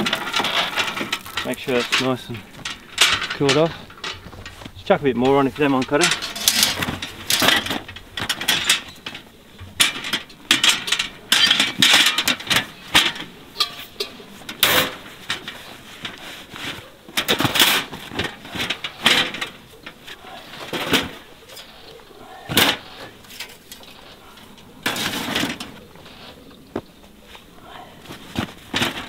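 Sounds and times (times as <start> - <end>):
steel fire pit clanking: 0.0 - 29.0.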